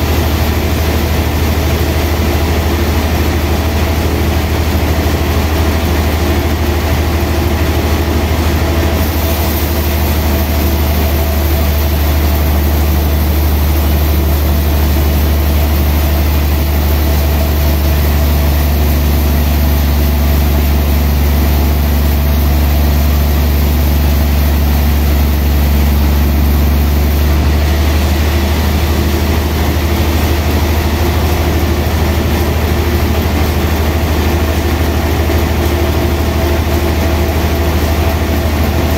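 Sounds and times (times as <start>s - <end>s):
band saw mill humming: 0.0s - 38.9s.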